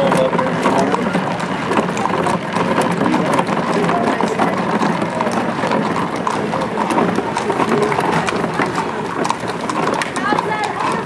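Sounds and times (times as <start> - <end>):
background chatter: 0.0 - 11.0
horse hooves clip-clopping on road: 0.0 - 11.0.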